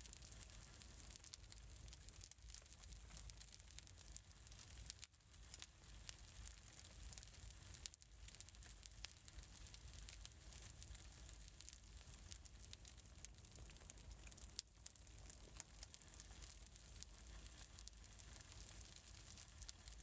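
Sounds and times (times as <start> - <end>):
burning logs rumble and hiss: 0.0 - 20.0
fire pops and snaps: 0.2 - 20.0.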